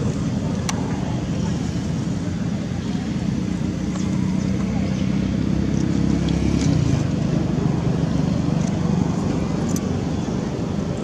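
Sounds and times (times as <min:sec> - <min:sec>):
motor engine droning: 0:00.0 - 0:11.0.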